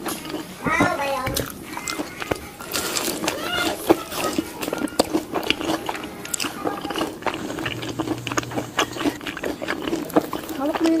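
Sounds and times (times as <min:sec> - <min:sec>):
toddler chewing with mouth clicks: 0:00.0 - 0:11.0.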